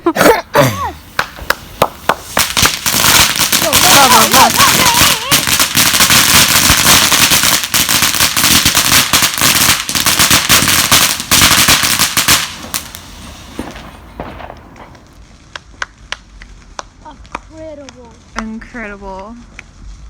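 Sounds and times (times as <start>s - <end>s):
fireworks crackling: 0.0s - 20.0s
sharp fireworks cracks: 0.6s - 20.0s.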